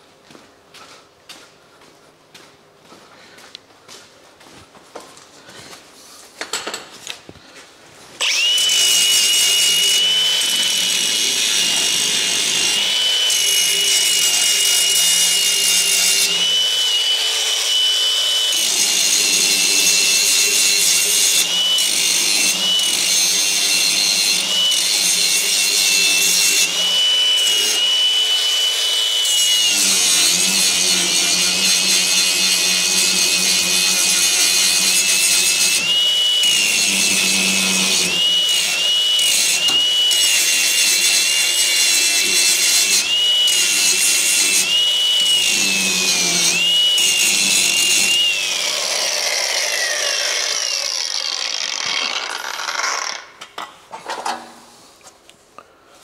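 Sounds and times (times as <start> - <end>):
angle grinder grinding steel: 8.2 - 53.7.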